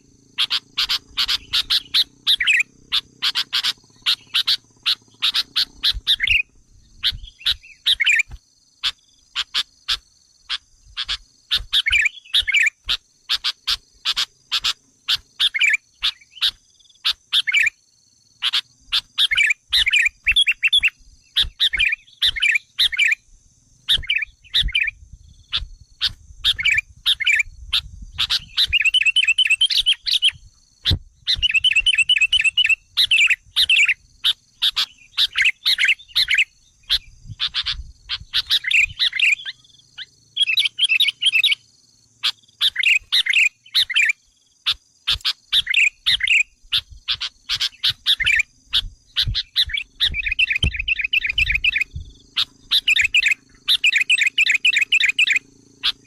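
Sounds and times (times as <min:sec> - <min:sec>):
bulbuls chattering and trilling: 0:00.0 - 0:17.7, 0:23.9 - 0:41.6, 0:44.7 - 0:56.0.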